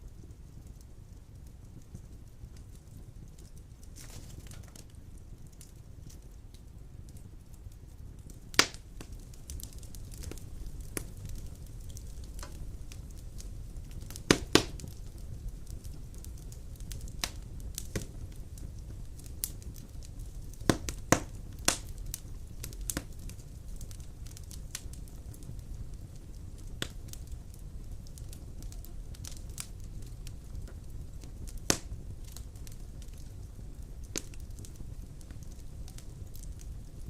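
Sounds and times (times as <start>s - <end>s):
burning logs crackling and popping: 0.0s - 37.0s
low rumble of flames: 0.0s - 37.0s.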